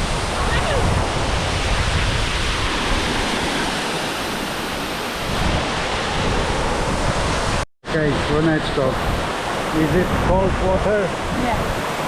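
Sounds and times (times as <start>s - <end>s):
waterfall rushing: 0.0s - 12.0s
wind rumble on microphone: 0.0s - 12.0s.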